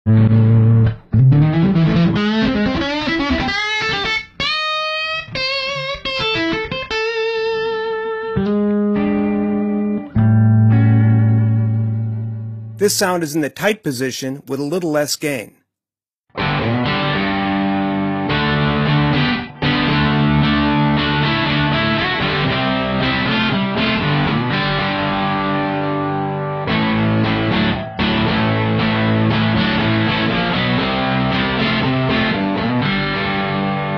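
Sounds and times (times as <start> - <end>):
overdriven electric guitar lead: 0.1 - 12.8, 16.3 - 33.9.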